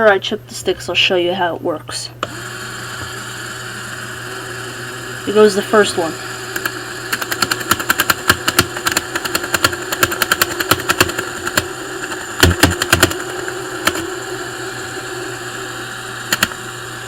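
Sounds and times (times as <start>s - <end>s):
electric motor whirring: 2.2s - 17.0s.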